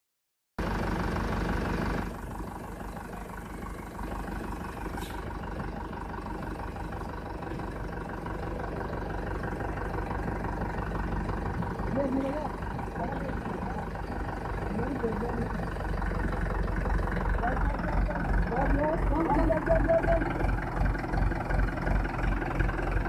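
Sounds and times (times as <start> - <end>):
tractor diesel engine idling: 0.6 - 23.0.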